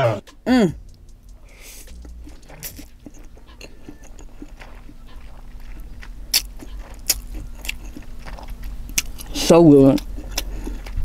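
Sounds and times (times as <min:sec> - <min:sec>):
wet chewing mouth clicks: 0:00.9 - 0:11.0.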